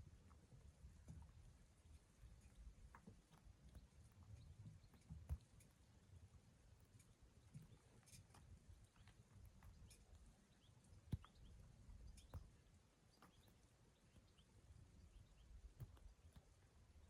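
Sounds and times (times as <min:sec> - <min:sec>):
soft ticks: 0:00.2 - 0:17.0.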